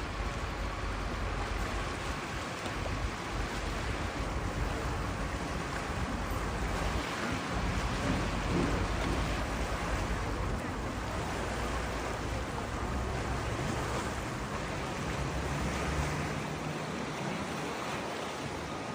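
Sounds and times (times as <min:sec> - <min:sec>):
sea water washing: 0:00.0 - 0:18.9.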